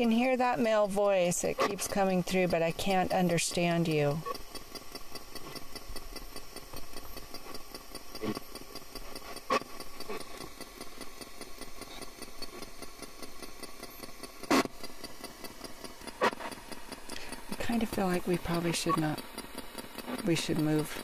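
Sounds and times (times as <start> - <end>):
radio static with rapid clicks: 0.0 - 21.0.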